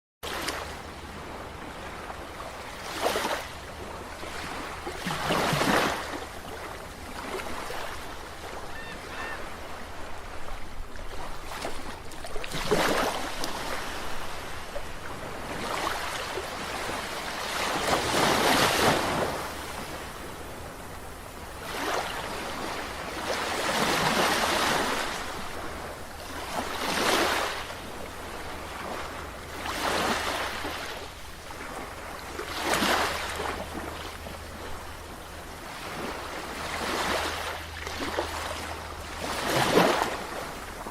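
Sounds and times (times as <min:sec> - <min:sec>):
ocean waves breaking: 0:00.2 - 0:40.9.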